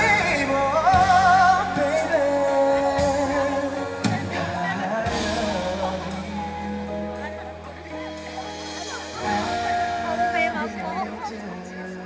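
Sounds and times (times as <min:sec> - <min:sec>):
man singing into microphone: 0:00.0 - 0:07.8, 0:09.0 - 0:12.0
backing track music: 0:00.0 - 0:12.0.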